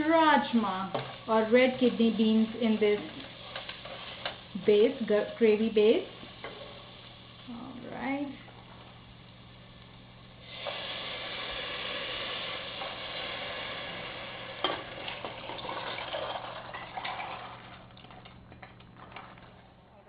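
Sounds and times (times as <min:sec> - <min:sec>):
food sizzling in a pot: 0:00.0 - 0:18.2.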